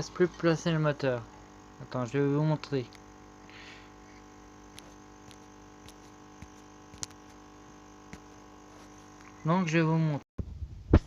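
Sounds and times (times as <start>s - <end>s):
muffled air pump hum: 0.0s - 11.0s.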